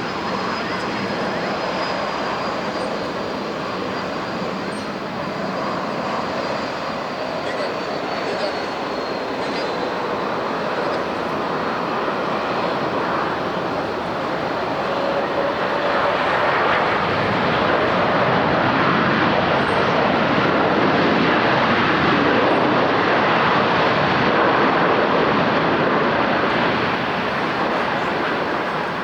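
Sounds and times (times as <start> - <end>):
jet airliner engine rush: 0.0 - 29.0.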